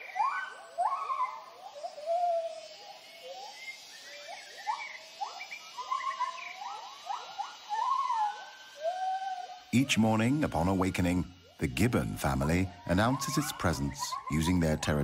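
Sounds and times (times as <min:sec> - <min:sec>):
gibbons hooting: 0:00.0 - 0:10.6, 0:11.4 - 0:15.0
faint high drone: 0:00.0 - 0:15.0.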